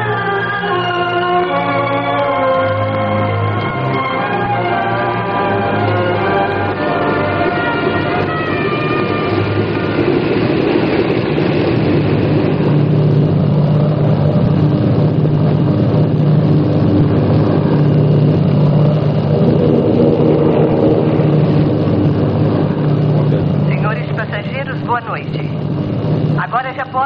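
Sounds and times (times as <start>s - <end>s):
airliner engines droning: 0.0s - 27.0s
music: 0.0s - 27.0s.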